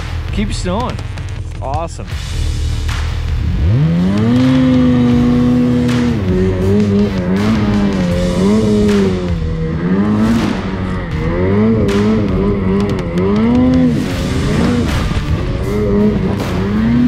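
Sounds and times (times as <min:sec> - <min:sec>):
snowmobile engine revving: 0:02.6 - 0:17.0.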